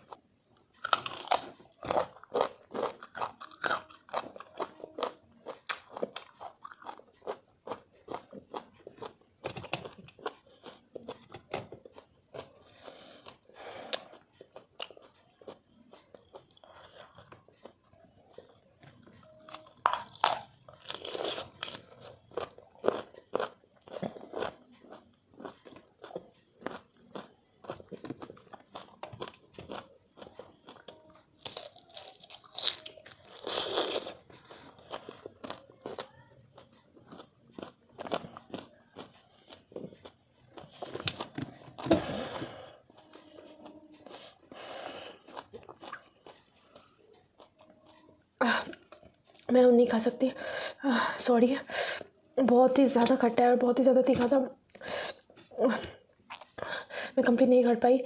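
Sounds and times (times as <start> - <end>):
wet crunching of chewing: 0.0 - 49.5.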